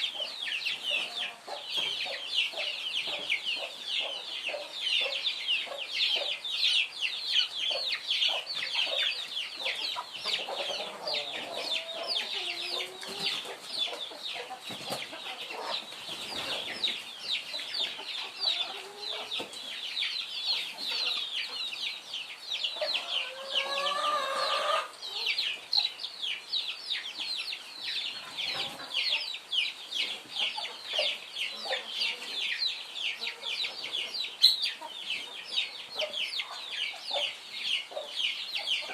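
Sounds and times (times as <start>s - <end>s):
hen clucking: 0.0s - 6.5s, 7.3s - 22.0s, 22.6s - 25.9s, 27.0s - 38.9s
chicks peeping: 0.0s - 38.9s.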